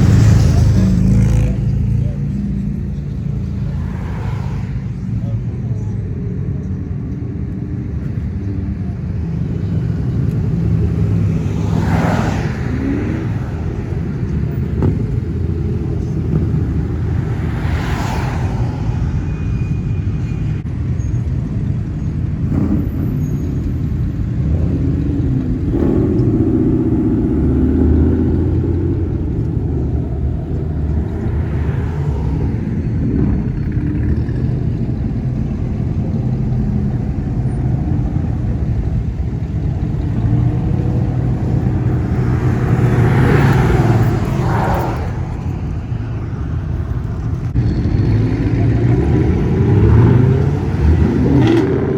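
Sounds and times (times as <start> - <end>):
car engines rumbling past: 0.0 - 51.9.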